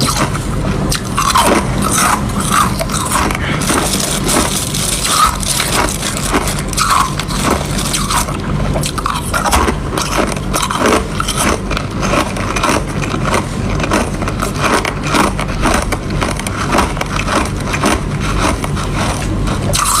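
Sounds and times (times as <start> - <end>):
ice crunching in the mouth: 0.0 - 20.0.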